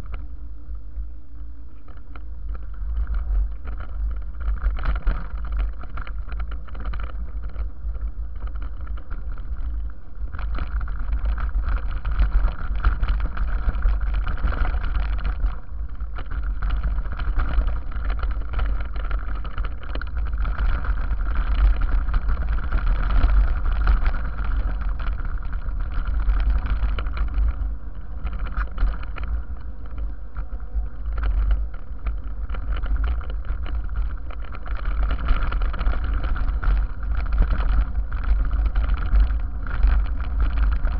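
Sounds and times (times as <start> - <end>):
bike rattling on stony trail: 0.0 - 40.9
wind buffeting microphone: 0.0 - 40.9.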